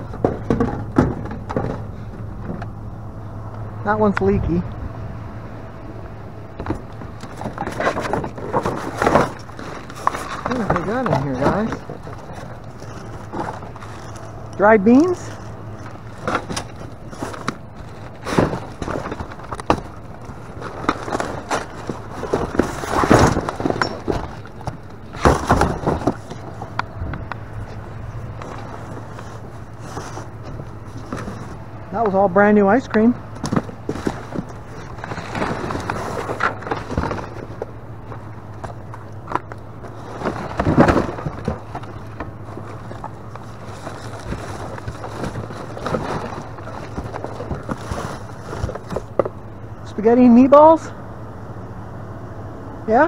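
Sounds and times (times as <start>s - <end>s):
rustling and clattering of packages: 0.0s - 3.0s, 6.5s - 49.9s
rummaging through a dumpster: 0.0s - 4.6s, 5.6s - 51.0s
steady low hum: 0.0s - 53.0s.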